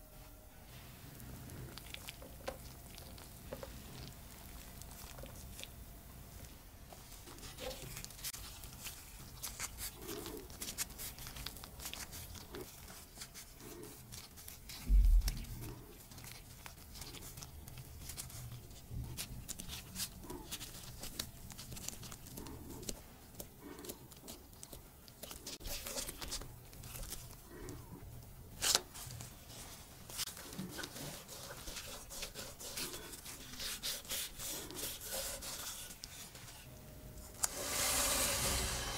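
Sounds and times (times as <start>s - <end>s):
rubber gloves crinkling: 0.7s - 38.9s.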